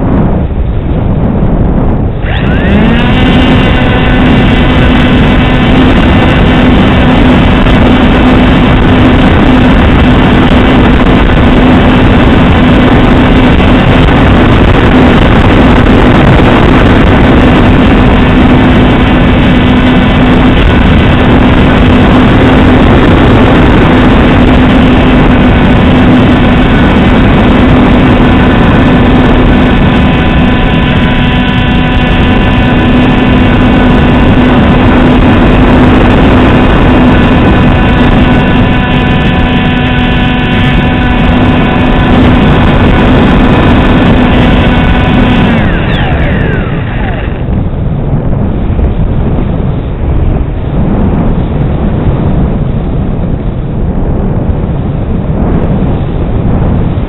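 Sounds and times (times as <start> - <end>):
model airplane motor drone: 0.0 - 54.4.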